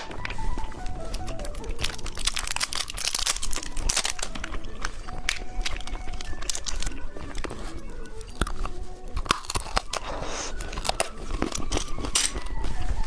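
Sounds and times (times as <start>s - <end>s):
person chewing crunchy candy: 0.0s - 13.0s.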